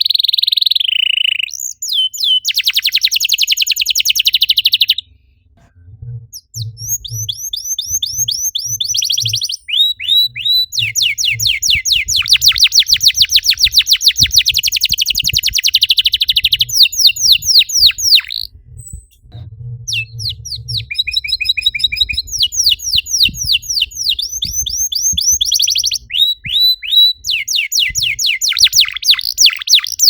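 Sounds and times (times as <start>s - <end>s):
canary singing trills: 0.0s - 5.0s, 6.3s - 30.0s.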